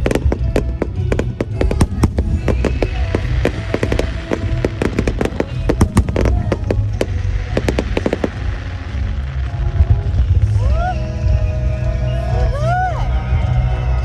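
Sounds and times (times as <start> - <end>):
fireworks bangs and crackles: 0.0 - 11.8
deep rumble: 0.0 - 14.0
music playing: 0.0 - 14.0.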